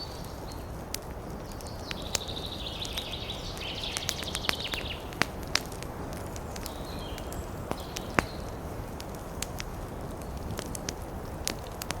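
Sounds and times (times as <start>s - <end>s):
low fire rumble: 0.0s - 12.0s
wood fire crackling: 0.0s - 12.0s.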